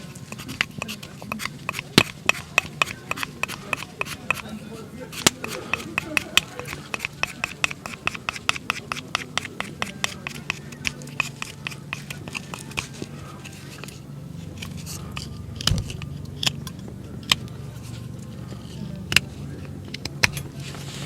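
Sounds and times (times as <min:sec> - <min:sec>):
dry root pieces crunching in a vessel: 0:00.0 - 0:21.0.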